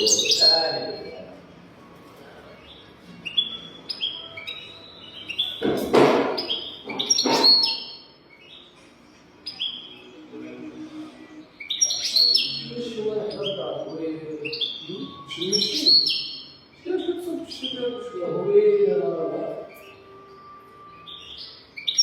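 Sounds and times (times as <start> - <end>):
bird twittering song: 0.0 - 1.4, 2.5 - 10.7, 11.4 - 18.4, 19.4 - 22.0.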